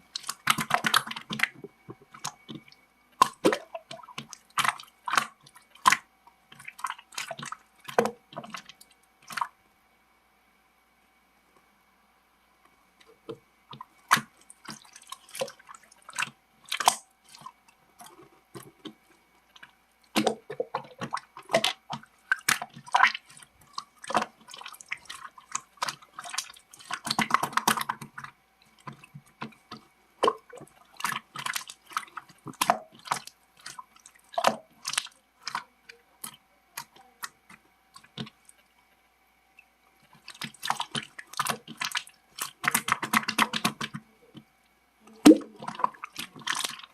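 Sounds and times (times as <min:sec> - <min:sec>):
faint steady hum: 0:00.0 - 0:46.9
wet clicking and crackling: 0:00.1 - 0:09.5, 0:13.0 - 0:39.0, 0:39.6 - 0:44.5, 0:45.1 - 0:46.9.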